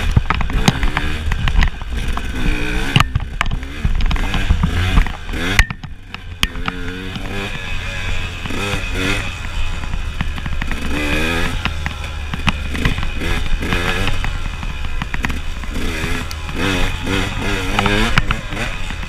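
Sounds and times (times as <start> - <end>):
motorcycle engine revving: 0.0 - 19.0
sharp knocks from rough ground: 0.0 - 19.0.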